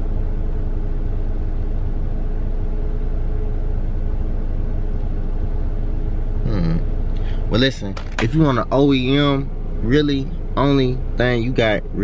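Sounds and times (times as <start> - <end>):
car engine rumble inside cabin: 0.0 - 12.0
faint steady hum: 0.0 - 12.0.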